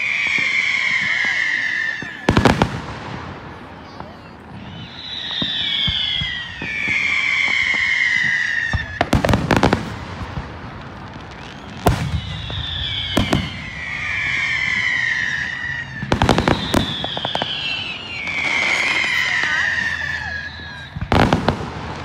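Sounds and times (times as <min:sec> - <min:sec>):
crackling firework bangs: 0:00.0 - 0:22.0
firework whistles falling in pitch: 0:00.0 - 0:22.0
loud firework bang: 0:00.3 - 0:22.0.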